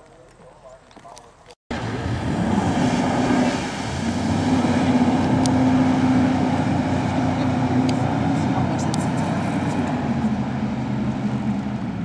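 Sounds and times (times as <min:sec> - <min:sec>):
motorboat engine running: 0:01.7 - 0:12.0
water rushing: 0:01.7 - 0:12.0.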